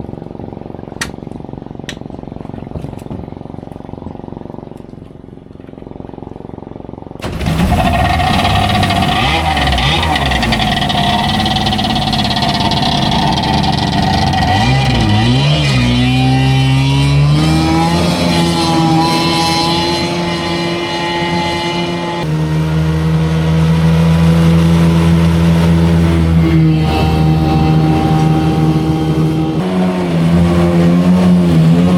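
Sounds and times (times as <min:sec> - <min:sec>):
boat engine running: 0:00.0 - 0:20.3, 0:21.2 - 0:31.9.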